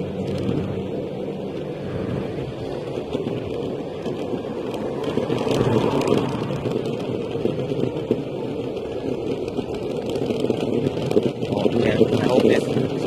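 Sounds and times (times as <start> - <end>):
electric scooter rumbling drone: 0.0 - 13.0.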